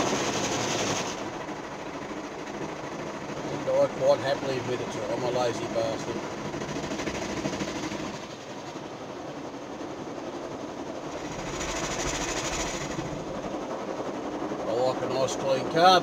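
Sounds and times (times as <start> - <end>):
car wash machinery rattle: 0.0 - 16.0.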